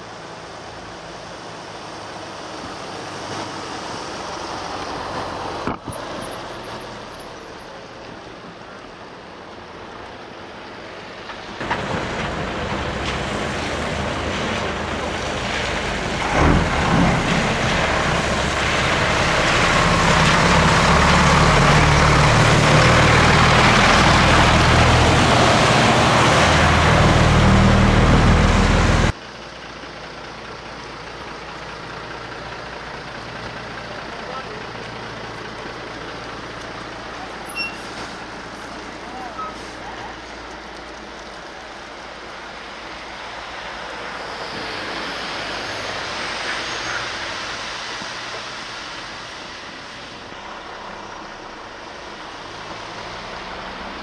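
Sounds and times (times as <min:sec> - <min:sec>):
truck engines driving by: 0:00.0 - 0:54.0.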